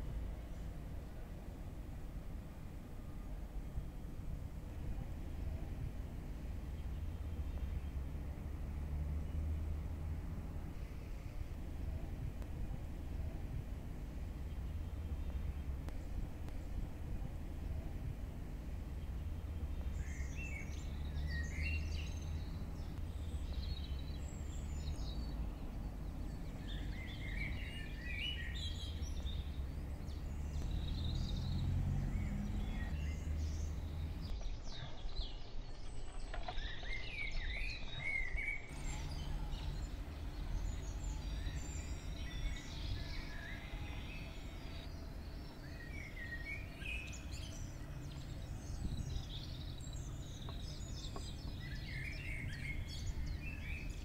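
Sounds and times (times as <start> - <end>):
low background rumble: 0.0 - 34.6, 38.7 - 54.0
small birds chirping: 0.0 - 54.0.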